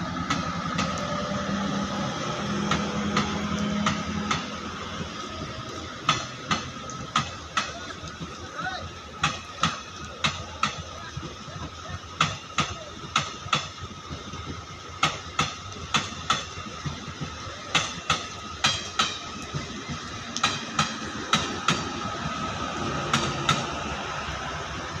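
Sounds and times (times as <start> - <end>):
diesel engine rumble: 0.0 - 25.0
train running noise: 0.0 - 25.0
train wheels clacking over rail joints: 0.0 - 25.0.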